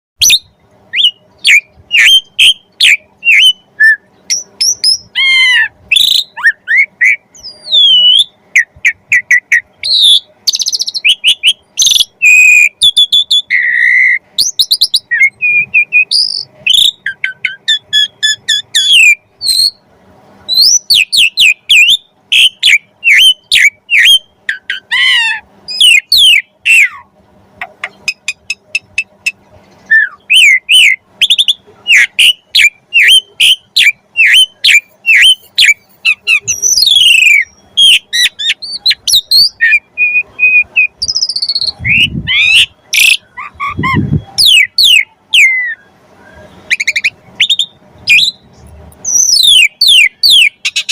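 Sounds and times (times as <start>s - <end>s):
starling singing whistles and chirps: 0.2s - 19.8s, 20.4s - 27.1s, 27.7s - 50.9s.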